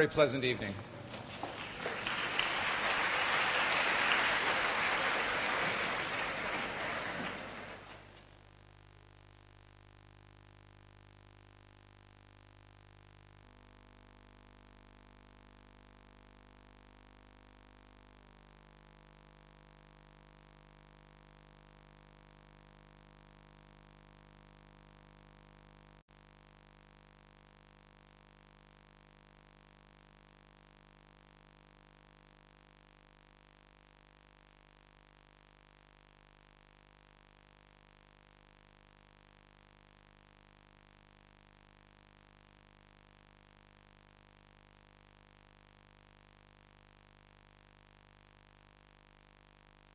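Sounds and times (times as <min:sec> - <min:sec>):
faint hum and hiss: 0:00.0 - 0:49.9.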